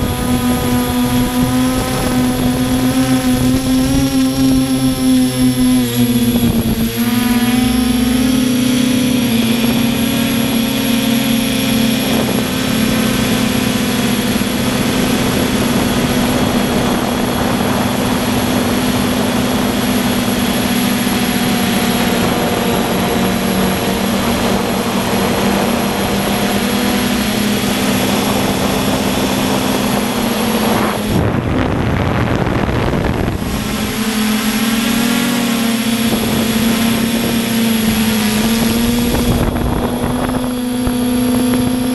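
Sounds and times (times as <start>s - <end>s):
quadcopter propellers droning: 0.0s - 41.9s.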